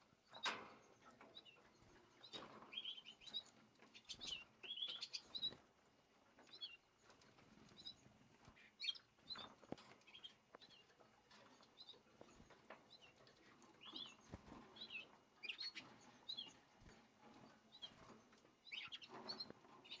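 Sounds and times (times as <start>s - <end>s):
canaries chirping: 0.2s - 20.0s.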